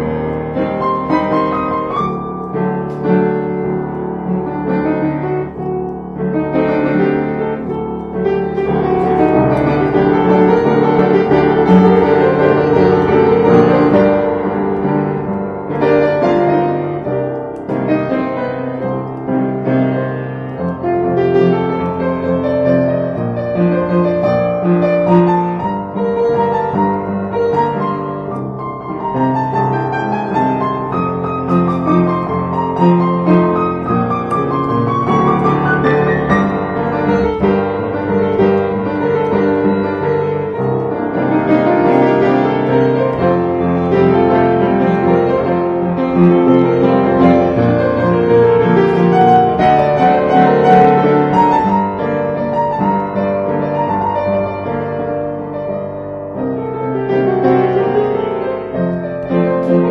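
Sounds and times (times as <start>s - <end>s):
piano waltz improvisation: 0.0s - 59.9s.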